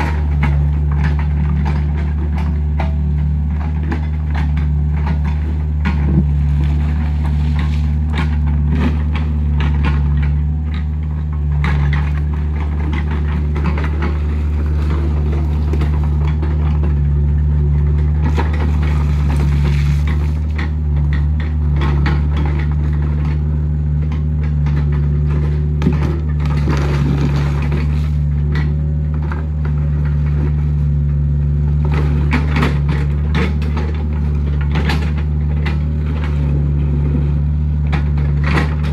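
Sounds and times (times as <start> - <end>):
diesel engine running under load: 0.0 - 38.9
rocks knocking and crunching: 0.0 - 38.9.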